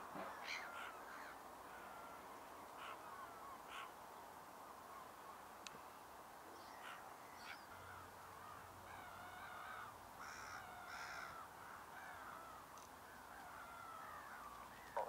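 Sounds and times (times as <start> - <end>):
wavering bird calls: 0.1 - 4.0, 6.5 - 15.0.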